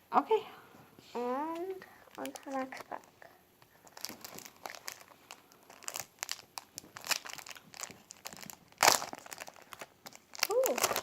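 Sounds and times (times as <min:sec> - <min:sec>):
foil wrapper crinkling: 0:02.1 - 0:11.0.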